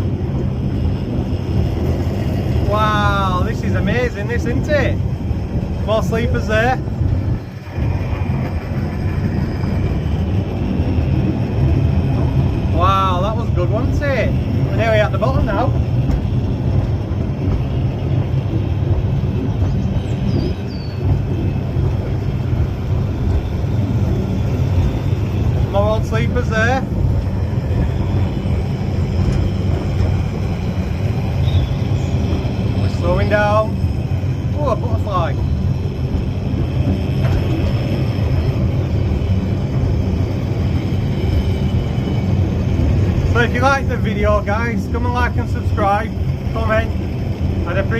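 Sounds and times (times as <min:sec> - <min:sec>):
funicular car rumbling on rails: 0:00.0 - 0:47.9.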